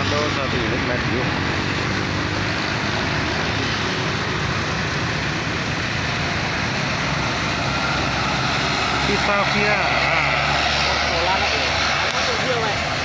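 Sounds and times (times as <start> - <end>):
bus diesel engine: 0.0 - 13.0
tyre and road noise: 0.0 - 13.0.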